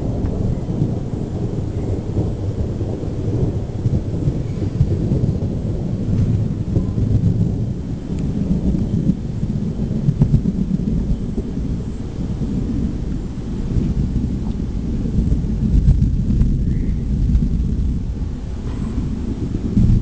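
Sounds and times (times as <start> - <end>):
faint hiss of rain: 0.0 - 20.0
thunder rumbling: 0.0 - 20.0.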